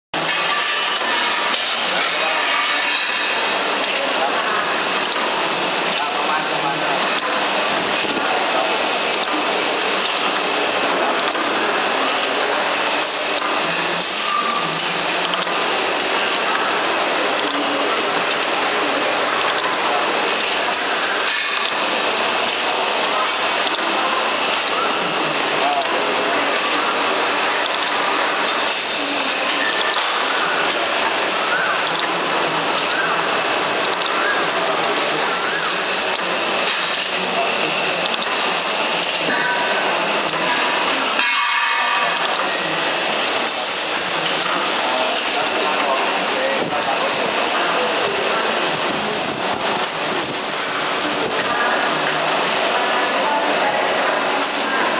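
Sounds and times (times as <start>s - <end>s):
capping machine clattering: 0.1s - 54.9s.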